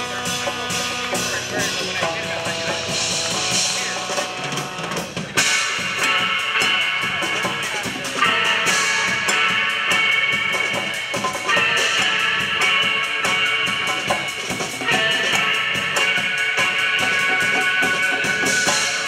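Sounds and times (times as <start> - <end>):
drum kit: 0.0 - 19.0
guitar playing: 0.0 - 19.0
live band music: 0.0 - 19.0.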